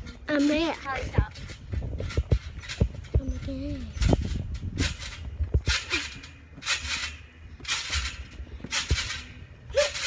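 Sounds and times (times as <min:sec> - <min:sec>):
low thumps: 0:00.0 - 0:09.8
trampoline mat swishing: 0:00.0 - 0:10.0.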